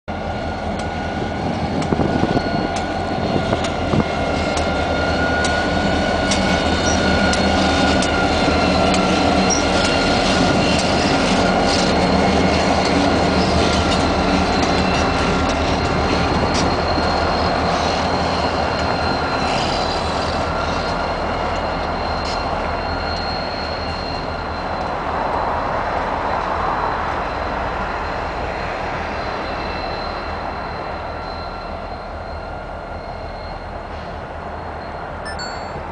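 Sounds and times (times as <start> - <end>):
diesel locomotive engines rumbling: 0.1 - 35.9
wheels squealing on rails: 0.1 - 35.9.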